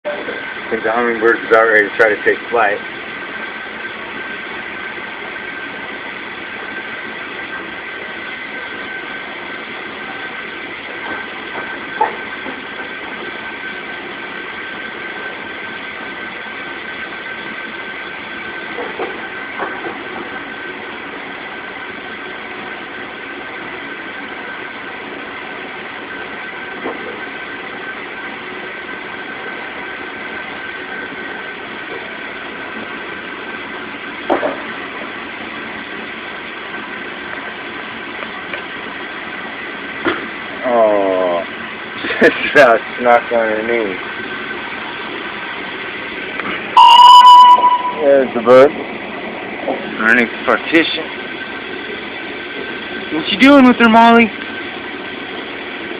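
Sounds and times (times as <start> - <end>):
mechanical hum with high whine: 0.1 - 55.9.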